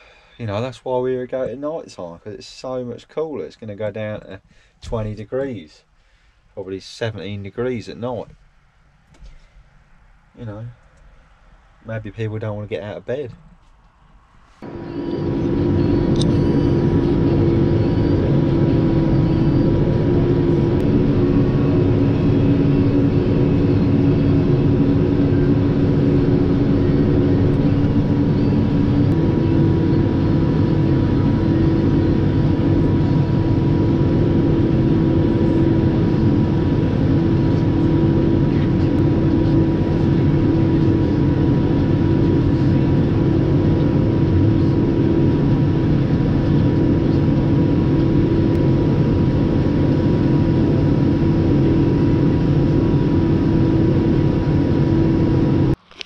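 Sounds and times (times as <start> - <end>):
tractor engine drone: 10.2 - 56.0.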